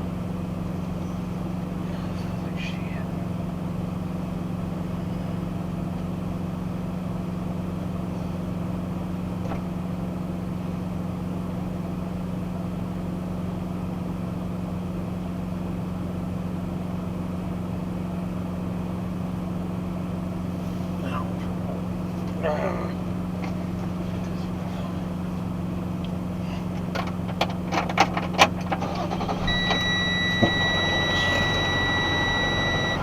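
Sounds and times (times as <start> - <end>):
truck engine drone inside cab: 0.0 - 33.0.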